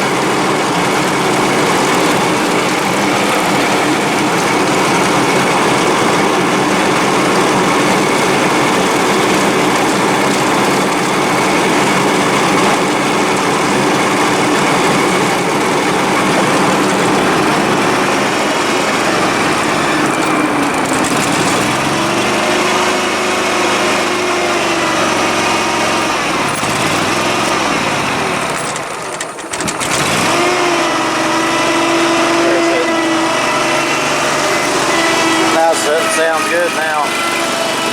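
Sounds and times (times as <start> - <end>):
lawn mower engine running: 0.0 - 37.9.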